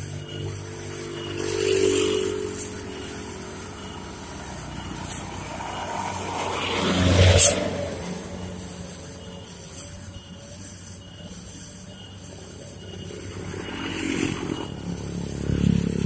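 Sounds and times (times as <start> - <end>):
truck engine passing: 0.0 - 11.6, 12.5 - 16.0.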